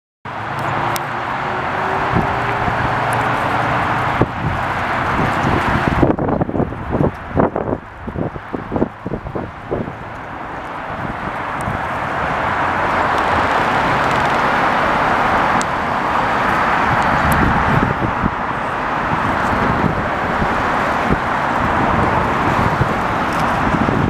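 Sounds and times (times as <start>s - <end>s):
highway traffic rushing: 0.3s - 24.0s.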